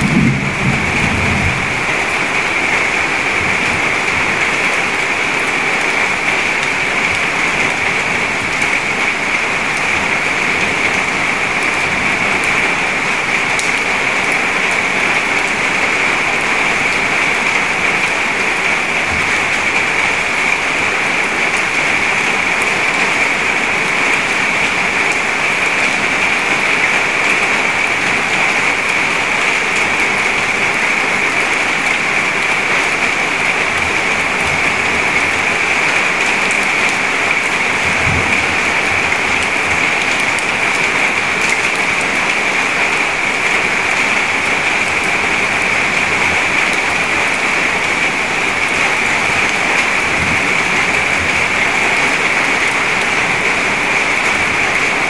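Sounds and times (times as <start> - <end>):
rain falling into a puddle: 0.0 - 55.0.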